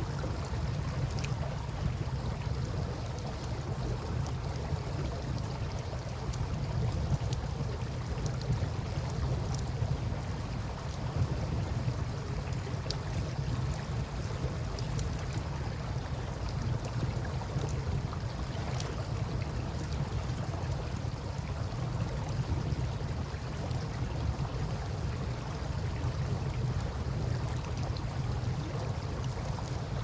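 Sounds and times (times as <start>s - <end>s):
river water flowing: 0.0s - 30.0s
wind: 0.0s - 30.0s.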